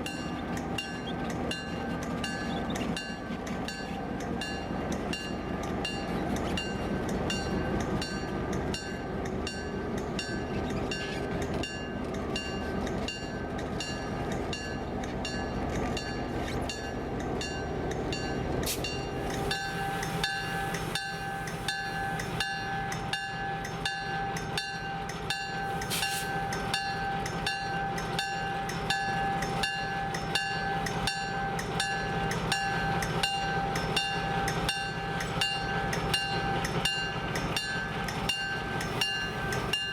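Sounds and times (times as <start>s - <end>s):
diesel locomotive engine running: 0.0s - 39.9s.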